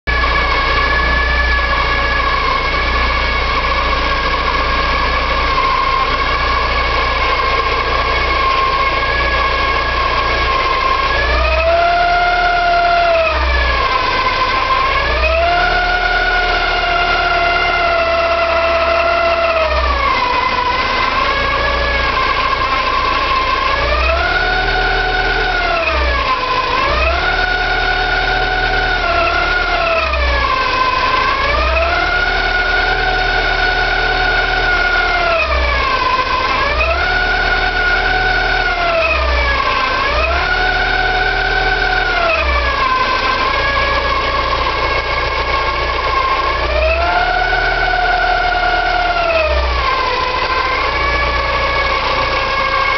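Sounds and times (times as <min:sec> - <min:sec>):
car engine running: 0:00.0 - 0:52.9
engine whine rising and falling: 0:00.0 - 0:52.9.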